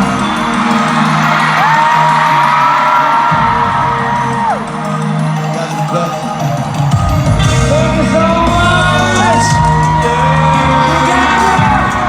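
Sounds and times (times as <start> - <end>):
crowd screaming and whooping: 0.0 - 12.0
loud music with singing: 0.0 - 12.0.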